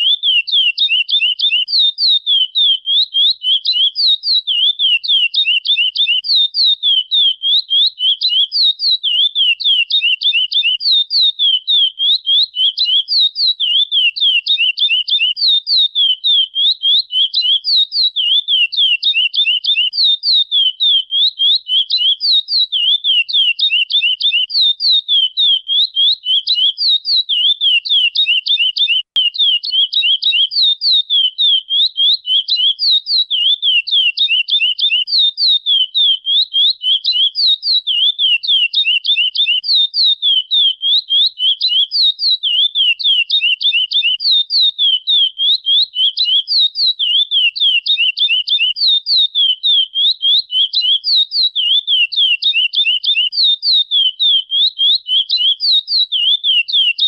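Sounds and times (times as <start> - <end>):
finch singing whistled notes: 0.0 - 57.0.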